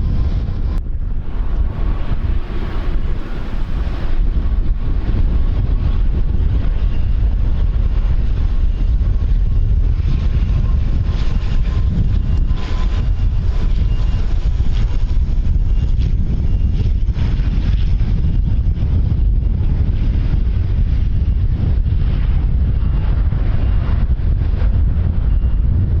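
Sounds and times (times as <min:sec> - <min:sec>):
airliner engines whining: 0:00.0 - 0:26.0
wind buffeting microphone: 0:00.0 - 0:26.0.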